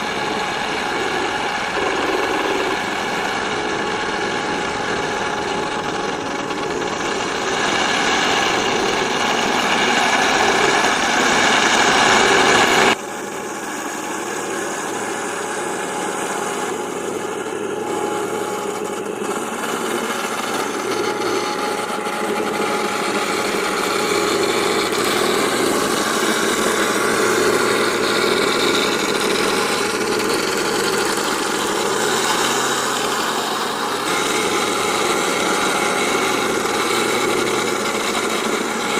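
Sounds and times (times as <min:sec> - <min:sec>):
toy tank engine rumble: 0:00.0 - 0:38.9.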